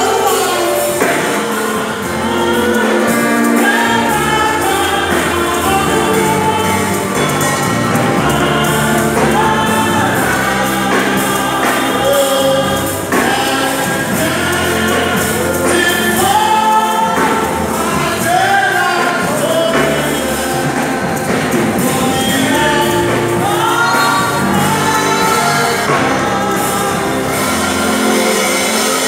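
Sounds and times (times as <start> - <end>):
backing singers: 0.0 - 29.0
lead singer singing gospel: 0.0 - 29.0.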